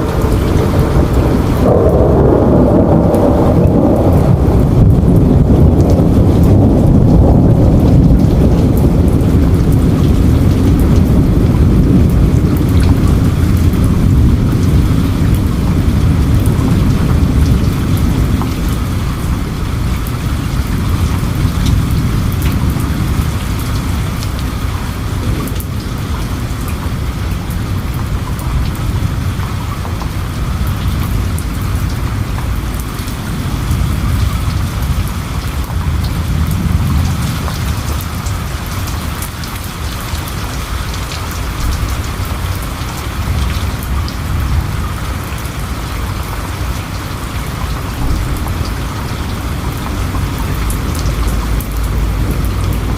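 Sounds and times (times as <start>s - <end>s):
distant thunder rumble: 0.0s - 52.9s
heavy rain falling: 0.0s - 52.9s.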